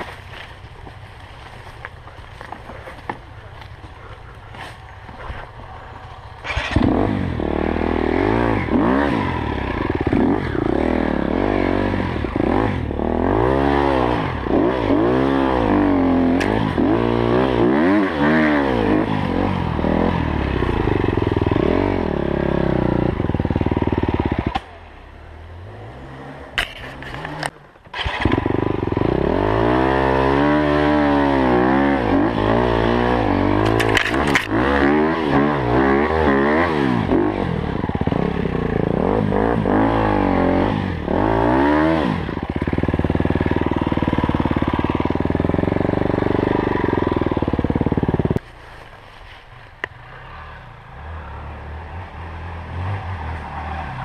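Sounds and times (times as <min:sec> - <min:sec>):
dirt bike engine revving: 0:01.7 - 0:24.8, 0:25.6 - 0:48.4.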